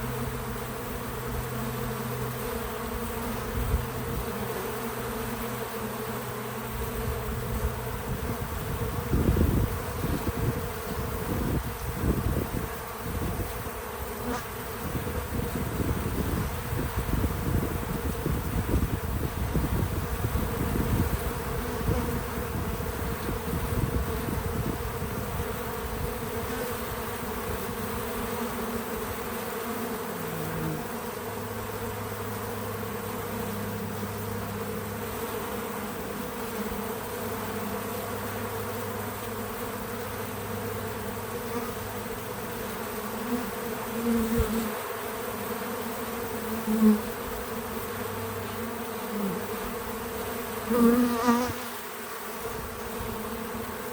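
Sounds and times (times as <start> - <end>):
bees buzzing: 0.0 - 53.9.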